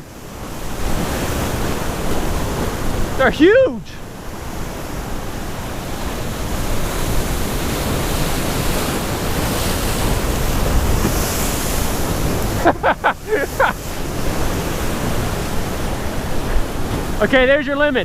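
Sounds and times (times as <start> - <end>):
heavy surf crashing on rocks: 0.0 - 18.0
wind rumbling on microphone: 0.0 - 18.0.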